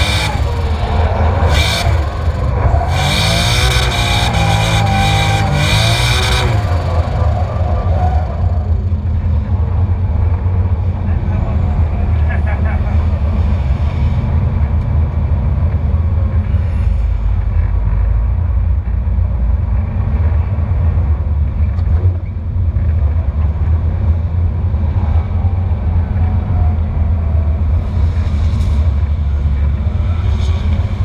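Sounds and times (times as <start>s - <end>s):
muffled car engine drone: 0.0s - 31.0s.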